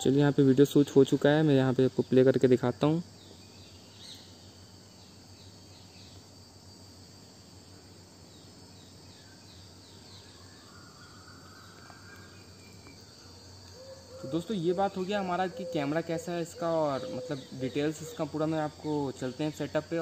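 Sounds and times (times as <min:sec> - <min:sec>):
crickets droning: 0:00.0 - 0:20.0.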